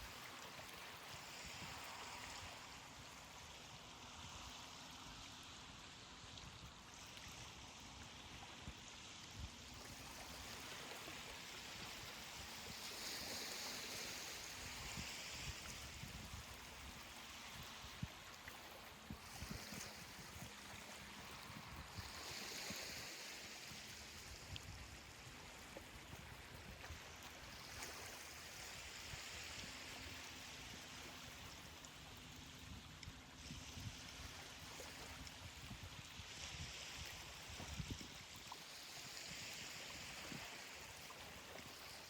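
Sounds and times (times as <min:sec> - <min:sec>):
ocean waves washing on beach: 0:00.0 - 0:42.0.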